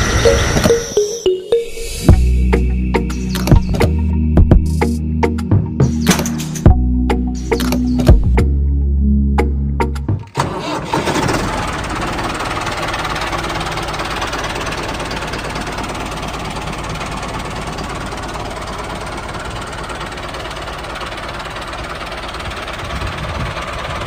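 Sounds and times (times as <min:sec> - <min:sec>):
tractor engine idling: 0:02.1 - 0:08.5, 0:09.8 - 0:24.0.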